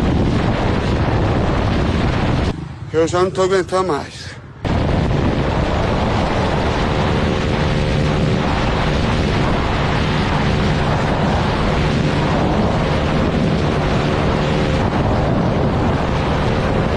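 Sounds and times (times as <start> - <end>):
motorcycle engine drone: 0.0 - 16.9
wind roar on microphone: 0.0 - 16.9.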